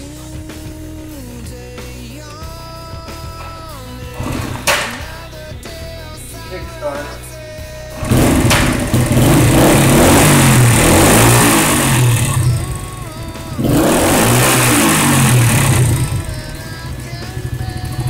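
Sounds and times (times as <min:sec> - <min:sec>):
motorcycle engine revving: 0:00.0 - 0:18.0
motorcycle kickstart: 0:02.2 - 0:18.0.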